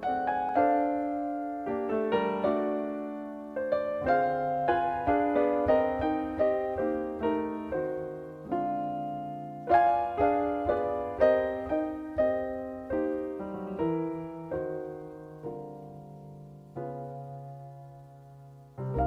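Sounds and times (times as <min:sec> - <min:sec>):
jazz piano chords: 0:00.0 - 0:19.0.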